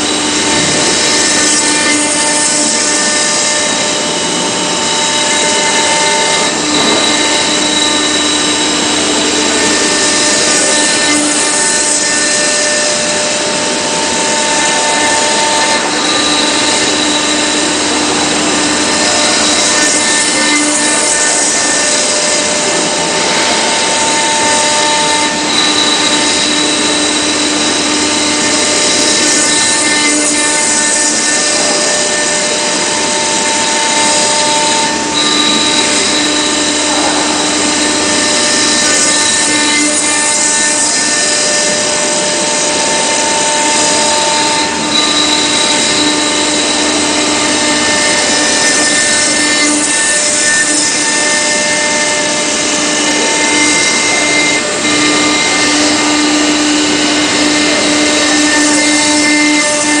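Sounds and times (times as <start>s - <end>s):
bit cutting stone hiss: 0.0s - 60.0s
router spindle whining: 0.0s - 60.0s.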